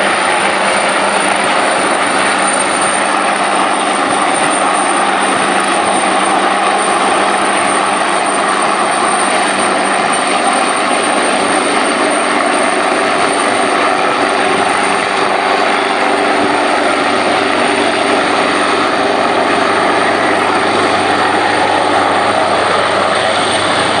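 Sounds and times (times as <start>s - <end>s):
helicopter hovering: 0.0s - 24.0s.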